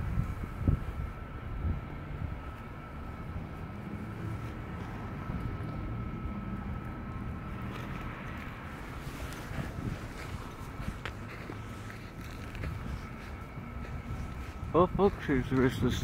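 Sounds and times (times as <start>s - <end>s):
faint high whine: 0.0s - 16.0s
low urban rumble: 0.0s - 16.0s.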